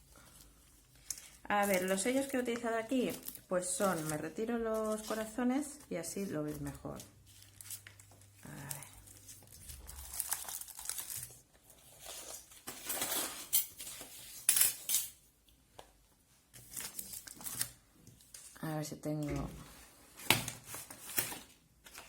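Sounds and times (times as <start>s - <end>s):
paper and card rustling: 0.1s - 14.8s, 15.7s - 22.0s.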